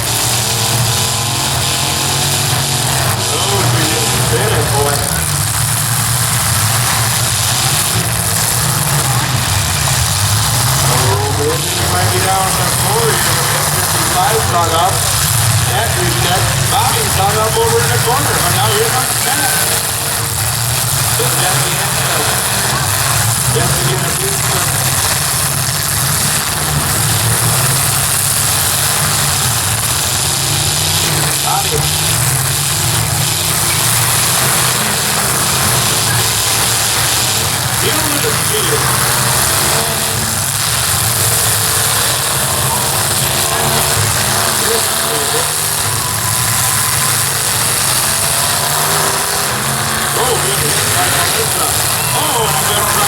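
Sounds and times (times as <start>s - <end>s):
car engines droning: 0.0s - 53.0s.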